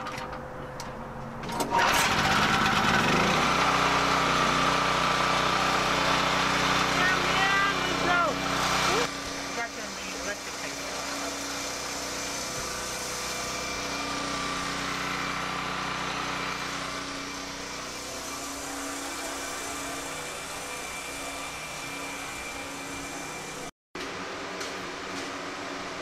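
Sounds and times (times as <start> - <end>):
small engine droning: 1.6 - 23.7.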